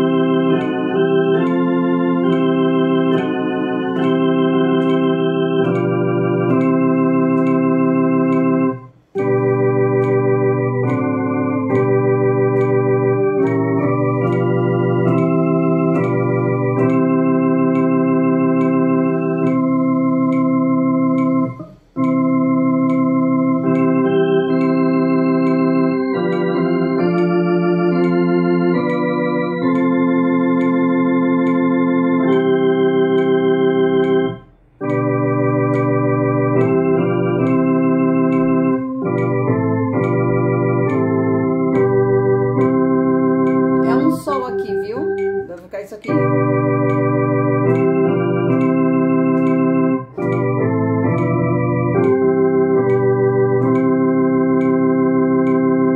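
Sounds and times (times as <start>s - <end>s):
electronic organ playing a hymn: 0.0s - 55.9s.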